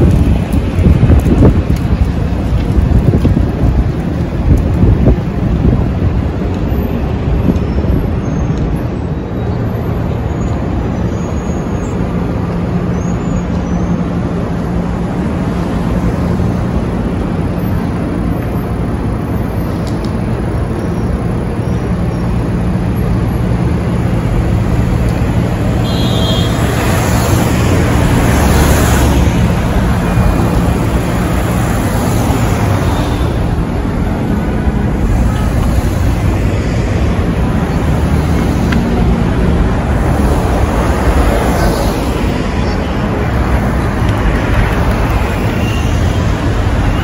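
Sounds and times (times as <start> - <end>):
traffic hiss: 0.0 - 47.0
vehicle engines humming: 0.0 - 47.0.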